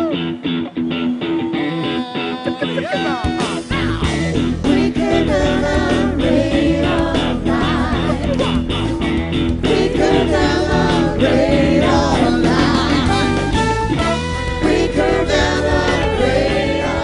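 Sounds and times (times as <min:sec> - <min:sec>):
song with singing and guitar: 0:00.0 - 0:17.0.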